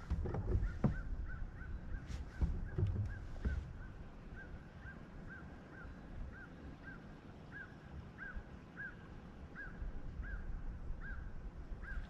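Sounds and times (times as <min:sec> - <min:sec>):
low wind rumble: 0:00.0 - 0:12.0
bird calling: 0:00.4 - 0:09.0, 0:09.6 - 0:12.0.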